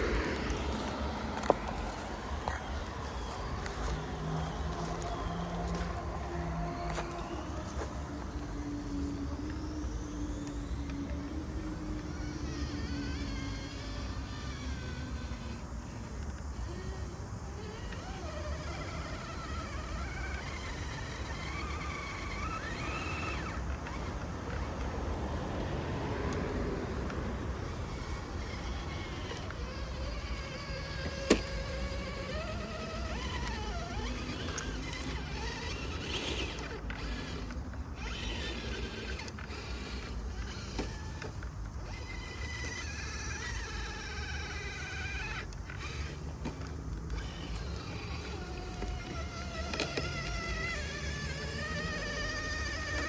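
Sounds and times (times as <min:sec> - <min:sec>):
electric motor and gears whining: 0:00.0 - 0:53.0.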